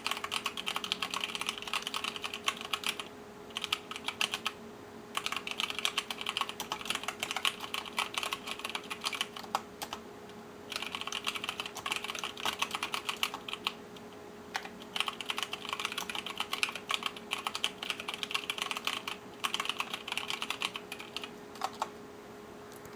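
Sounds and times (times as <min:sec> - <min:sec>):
mechanical keyboard typing: 0:00.0 - 0:04.6, 0:05.2 - 0:10.0, 0:10.7 - 0:13.8, 0:14.5 - 0:21.9
faint steady hum: 0:00.0 - 0:22.9.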